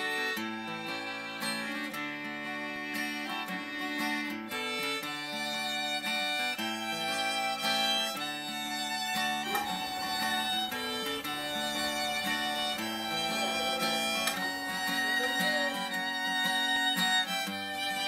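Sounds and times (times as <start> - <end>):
fiddle playing: 0.0 - 18.0
plucked guitar accompaniment: 0.0 - 18.0.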